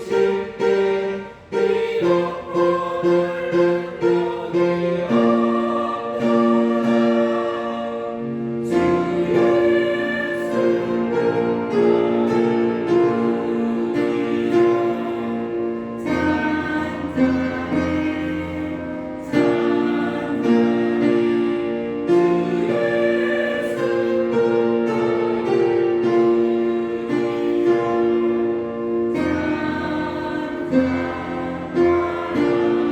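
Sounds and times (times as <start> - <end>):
church choir singing: 0.0 - 32.9
instrumental accompaniment: 0.0 - 32.9.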